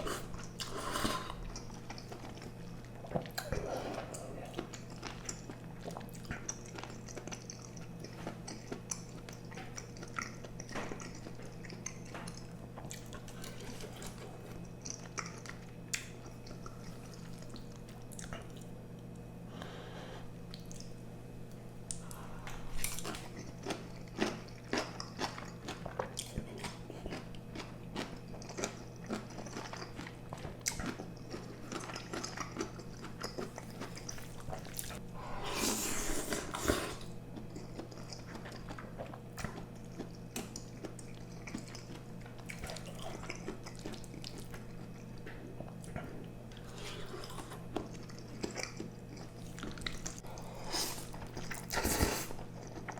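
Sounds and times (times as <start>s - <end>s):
steady low hum: 0.0s - 52.9s
chewing with wet mouth clicks: 0.4s - 19.2s, 20.5s - 35.0s, 36.6s - 52.9s.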